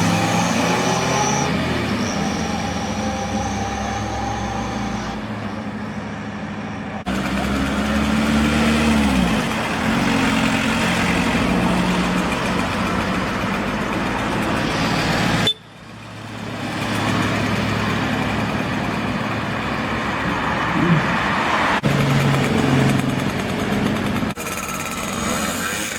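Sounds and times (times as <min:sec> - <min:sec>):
engine revving: 0:00.0 - 0:06.1, 0:06.9 - 0:25.9
car engines driving off: 0:00.0 - 0:25.9.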